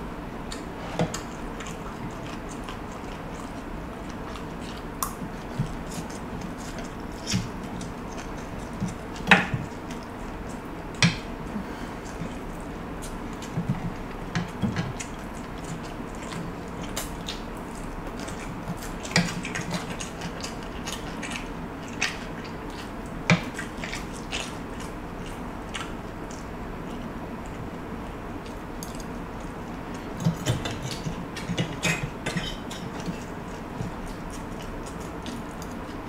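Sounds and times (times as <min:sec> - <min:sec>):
chewing: 0:00.5 - 0:36.0.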